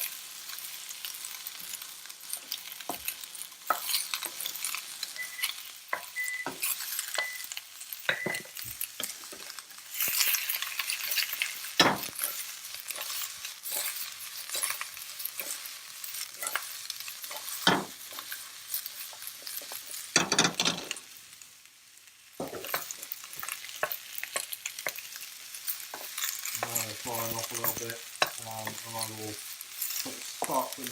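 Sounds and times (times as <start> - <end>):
vegetables sizzling in a wok: 0.0 - 30.9
spoon scraping and knocking pan: 1.5 - 21.0, 22.4 - 30.7.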